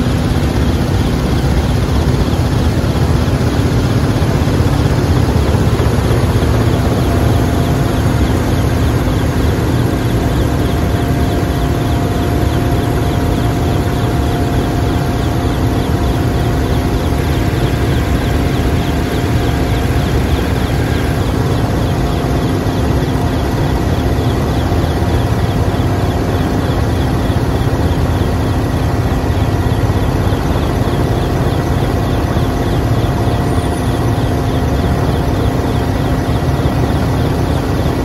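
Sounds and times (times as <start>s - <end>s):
vehicle engine drone: 0.0s - 38.0s.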